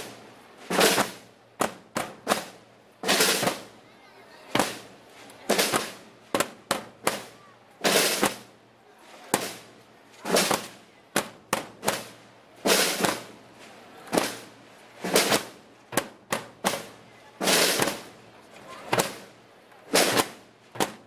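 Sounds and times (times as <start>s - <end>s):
snare drum march beat: 0.0s - 3.8s, 4.5s - 8.5s, 9.3s - 13.4s, 14.1s - 18.2s, 18.9s - 19.3s, 19.9s - 21.0s.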